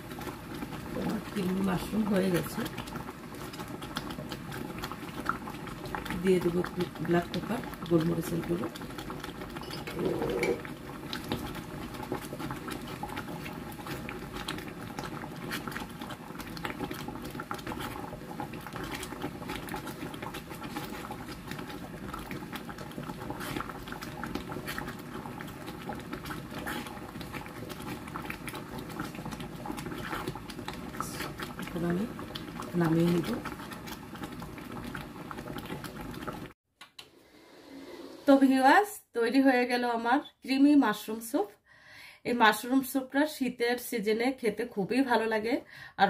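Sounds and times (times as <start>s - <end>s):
soup bubbling and popping: 0.0s - 37.0s.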